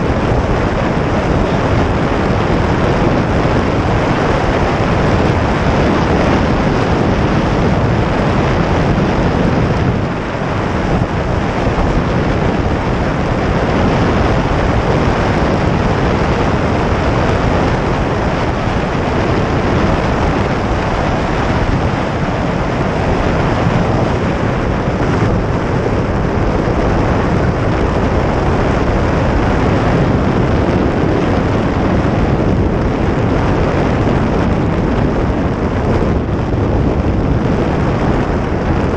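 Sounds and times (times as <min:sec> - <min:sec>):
cart wheels rumbling on asphalt: 0:00.0 - 0:38.9
wind noise on camera: 0:00.0 - 0:38.9.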